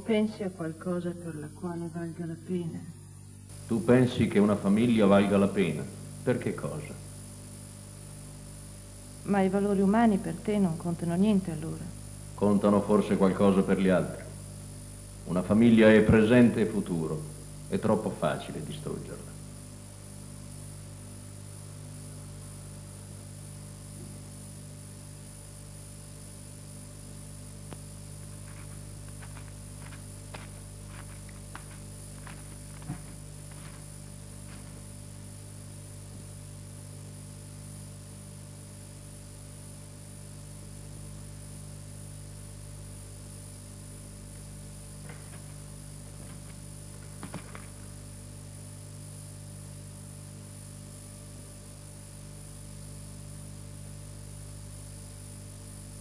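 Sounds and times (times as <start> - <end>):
thin high whine: 0.0 - 52.4
electrical mains hum: 0.0 - 56.0.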